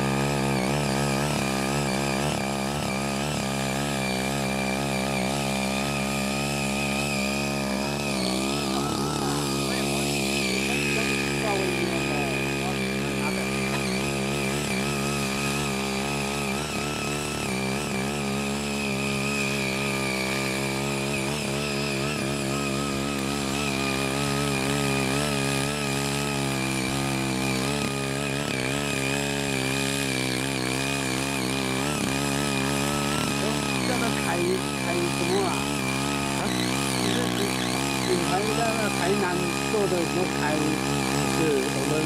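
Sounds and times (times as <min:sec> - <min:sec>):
small cultivator engine running: 0:00.0 - 0:42.0
tines churning through soil: 0:00.0 - 0:42.0.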